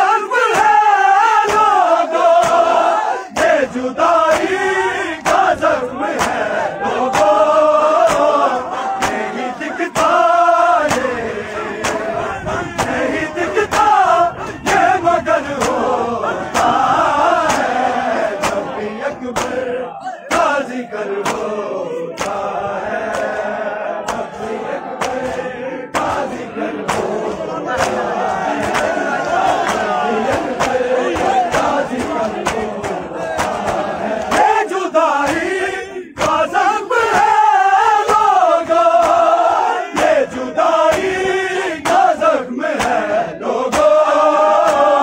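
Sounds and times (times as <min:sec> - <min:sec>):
men chanting in unison: 0:00.0 - 0:45.0
chest slapping beat: 0:01.5 - 0:14.9, 0:15.5 - 0:19.7, 0:20.3 - 0:37.4, 0:38.1 - 0:43.1.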